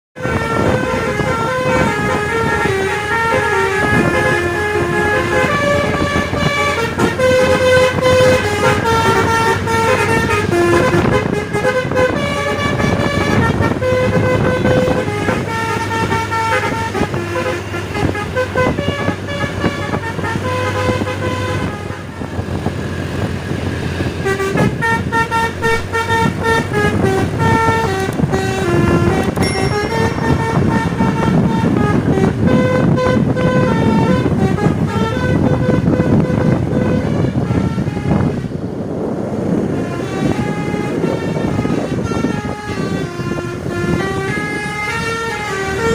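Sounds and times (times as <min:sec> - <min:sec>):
bus engine running: 0:00.2 - 0:45.9
multi-tone bus horn tune: 0:00.2 - 0:45.9.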